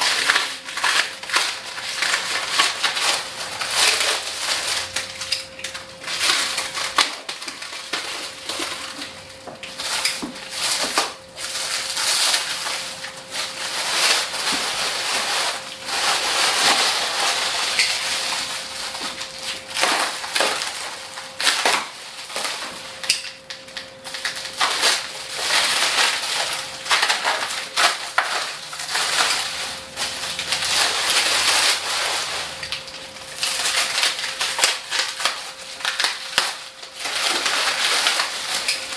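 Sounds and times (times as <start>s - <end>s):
packing material crackling and crunching: 0.0s - 38.9s.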